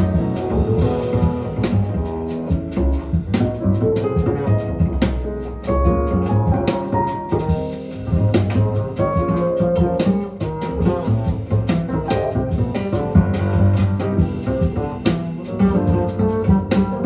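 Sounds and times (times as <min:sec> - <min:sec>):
jazz over loudspeakers: 0:00.0 - 0:17.0
walking double bass: 0:00.0 - 0:17.0.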